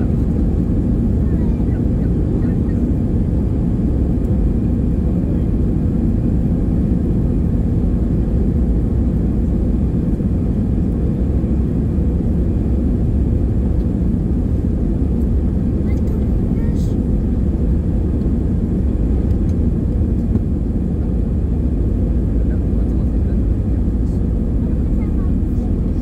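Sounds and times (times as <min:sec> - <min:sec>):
airliner cabin jet engine rumble: 0:00.0 - 0:26.0.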